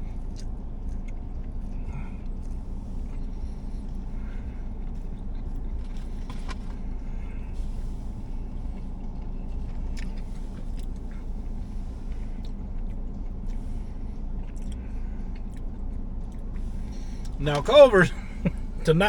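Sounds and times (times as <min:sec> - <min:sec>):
car idling hum: 0:00.0 - 0:19.0.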